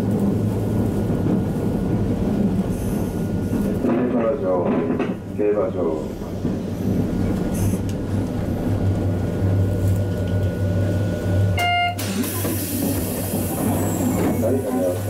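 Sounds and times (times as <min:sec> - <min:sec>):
tram motor hum and wheel rumble: 0:00.0 - 0:15.0.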